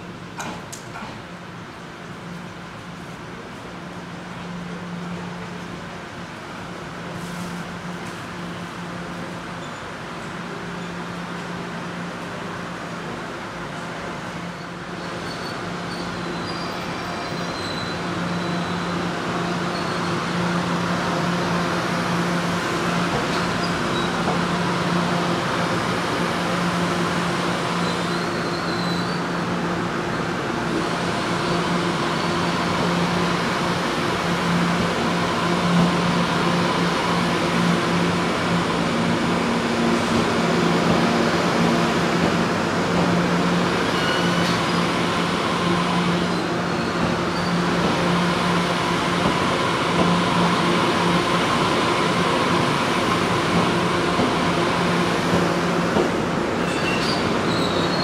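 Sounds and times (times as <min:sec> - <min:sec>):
electric train hum: 0:00.0 - 0:58.0.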